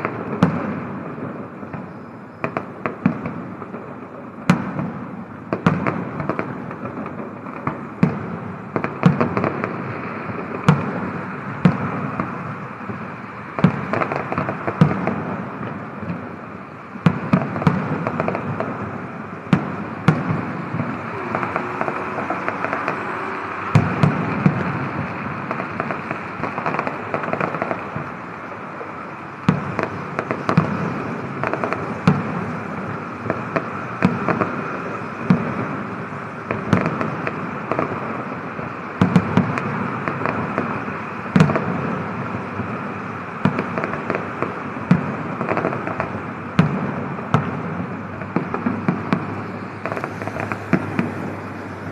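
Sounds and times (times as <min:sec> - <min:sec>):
fireworks bangs: 0:00.0 - 0:51.9
fireworks crackling: 0:00.0 - 0:51.9.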